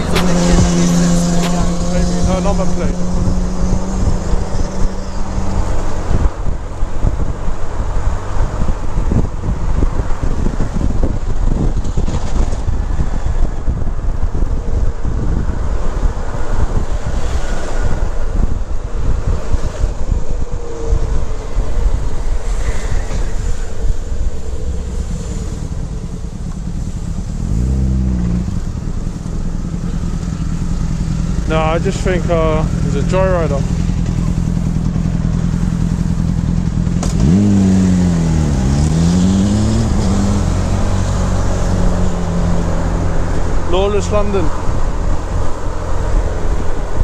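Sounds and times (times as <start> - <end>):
motorcycle engine and road rumble: 0.0 - 47.0
wind buffeting microphone: 0.0 - 47.0.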